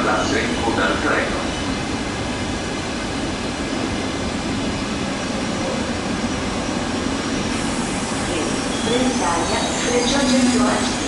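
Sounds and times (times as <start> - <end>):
electric trains rumbling: 0.0 - 11.0
train rolling slowly: 0.0 - 11.0.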